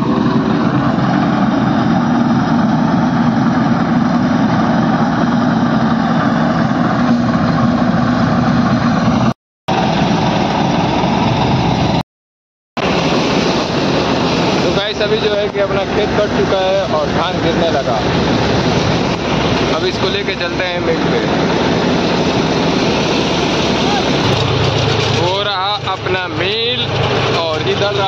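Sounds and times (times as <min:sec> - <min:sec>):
combine harvester running: 0:00.0 - 0:12.0, 0:12.8 - 0:28.0.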